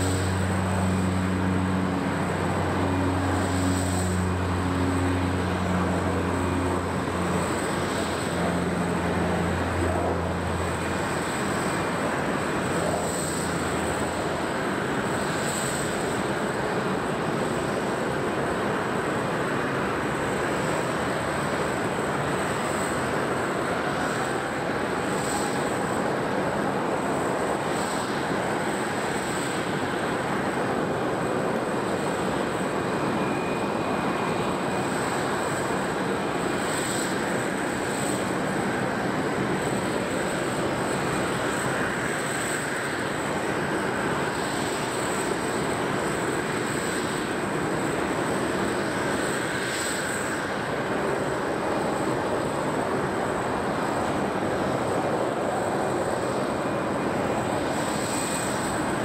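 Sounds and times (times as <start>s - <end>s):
distant ground equipment and aircraft: 0.0s - 59.0s.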